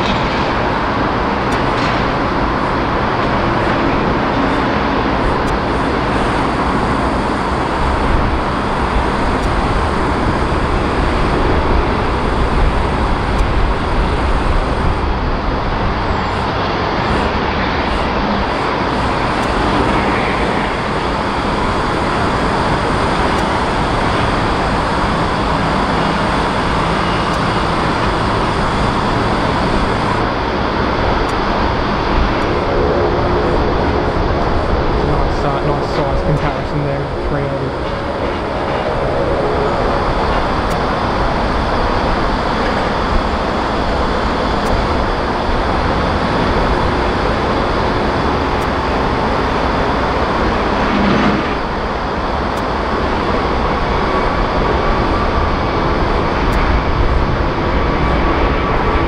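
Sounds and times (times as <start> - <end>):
jet engines taxiing: 0.0 - 59.0.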